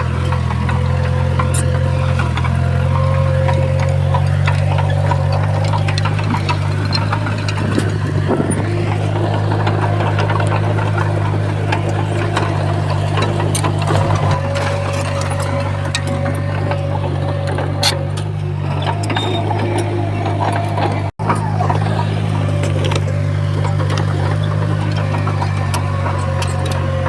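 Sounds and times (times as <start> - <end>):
heavy diesel engine droning: 0.0 - 27.0
metallic clanks and clicks: 0.0 - 27.0.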